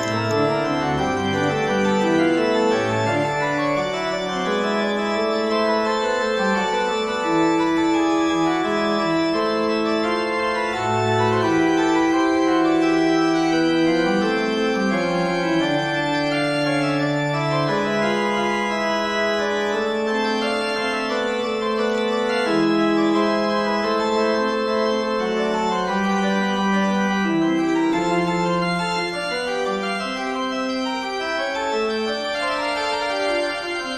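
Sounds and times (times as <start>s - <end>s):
organ chords: 0.0s - 33.9s.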